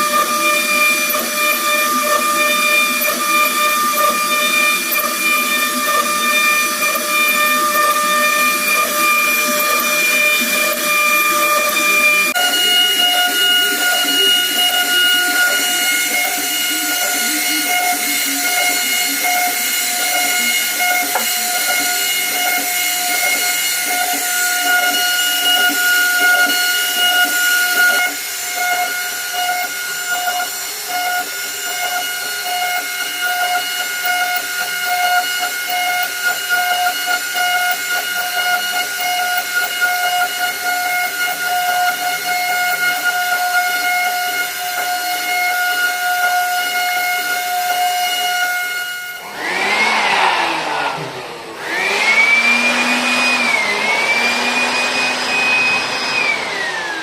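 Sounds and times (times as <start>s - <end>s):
hiss of bit cutting wood: 0.0s - 56.2s
router spindle whining: 0.0s - 57.0s.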